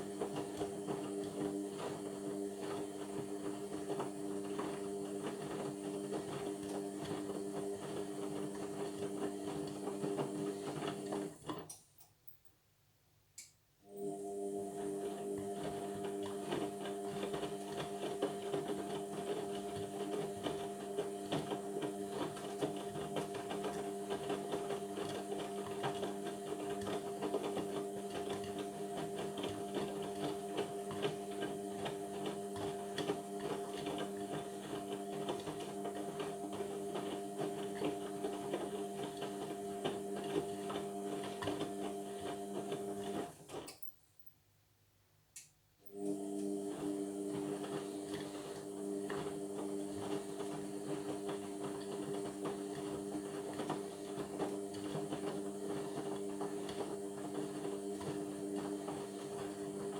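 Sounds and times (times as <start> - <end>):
washing machine motor hum rattling: 0.0 - 11.4, 14.1 - 43.6, 46.0 - 59.9.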